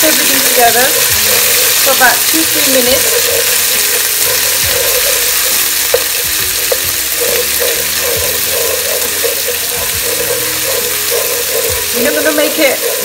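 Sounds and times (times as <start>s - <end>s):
paste sizzling in hot oil: 0.0s - 13.0s
wooden spoon scraping pan: 0.0s - 13.0s.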